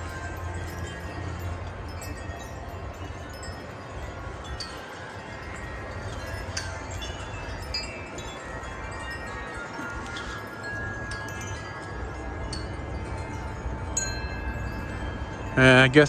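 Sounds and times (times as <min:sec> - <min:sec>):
wind chimes ringing: 0:00.0 - 0:16.0
wind rumble on microphone: 0:00.0 - 0:16.0.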